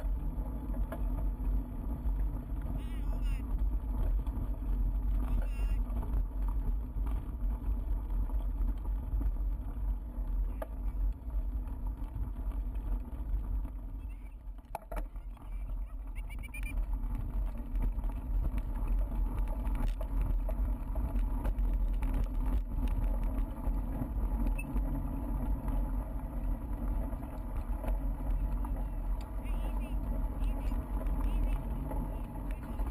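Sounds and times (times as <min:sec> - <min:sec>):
bicycle tyres rumbling on gravel: 0:00.0 - 0:32.9.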